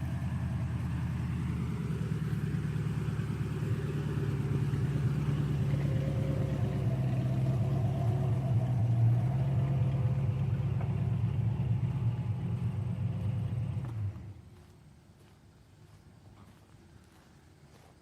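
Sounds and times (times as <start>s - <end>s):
tractor engine running: 0.0s - 14.6s.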